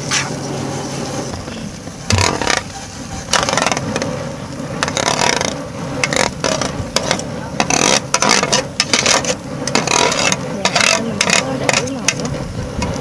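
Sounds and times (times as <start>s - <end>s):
spatula scraping a pan: 1.8s - 13.0s.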